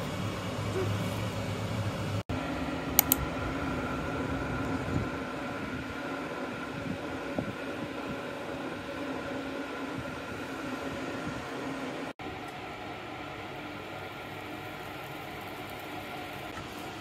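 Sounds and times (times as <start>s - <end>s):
mechanical hum with tones: 0.0s - 17.0s.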